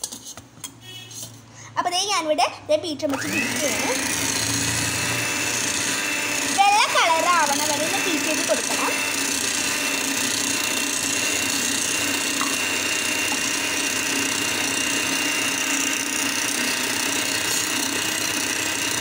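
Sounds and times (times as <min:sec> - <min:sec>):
electric hand mixer whine: 0:03.1 - 0:19.0.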